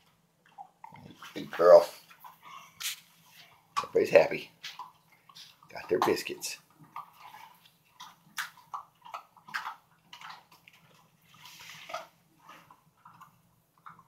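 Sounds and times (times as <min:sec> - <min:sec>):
dogs crunching biscuits: 0:00.0 - 0:14.0.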